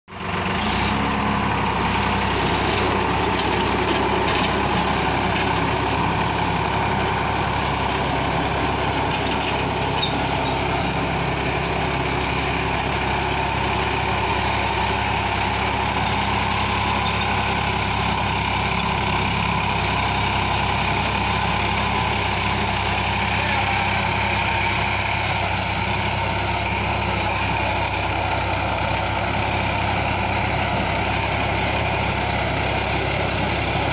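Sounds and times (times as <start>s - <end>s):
tractor diesel engine running: 0.1s - 33.9s
rotavator churning soil: 0.2s - 33.9s.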